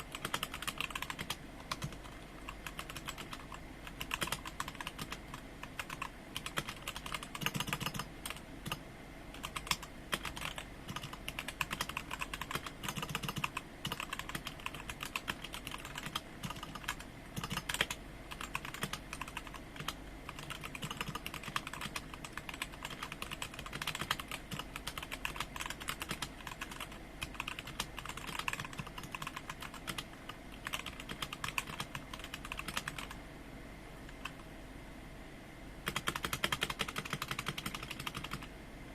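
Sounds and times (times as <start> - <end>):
fast typing on mechanical keyboard: 0.0 - 33.2, 35.8 - 38.5.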